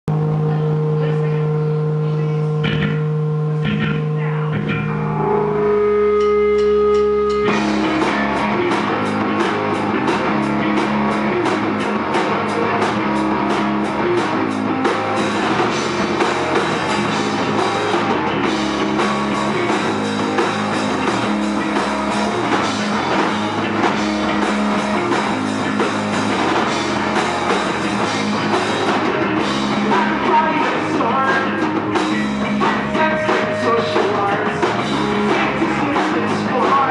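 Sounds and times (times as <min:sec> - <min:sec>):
drums beating: 0:00.0 - 0:36.9
electric guitar notes ringing: 0:00.1 - 0:36.9
rock band playing: 0:00.1 - 0:36.9.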